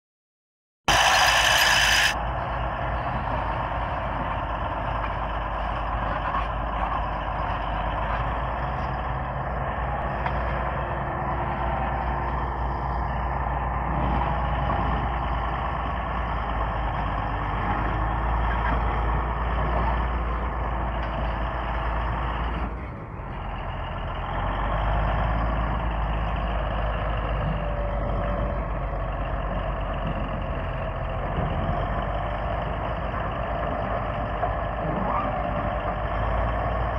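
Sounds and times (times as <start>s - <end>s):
bulldozer diesel engine running: 0.9s - 36.9s.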